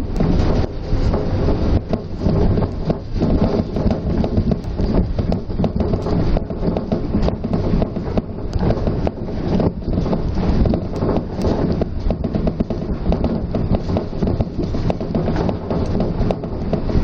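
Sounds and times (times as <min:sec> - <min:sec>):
monorail car rumbling: 0:00.0 - 0:17.0.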